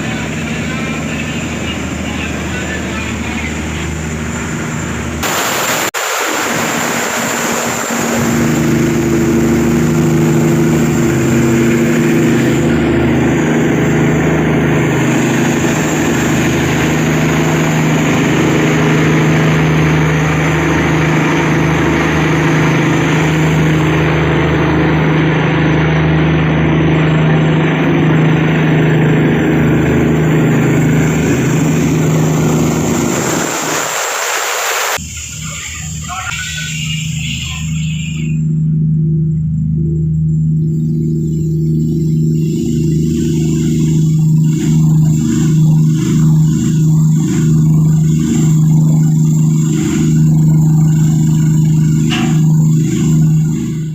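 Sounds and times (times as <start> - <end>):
boat diesel engine droning: 0.0 - 53.9.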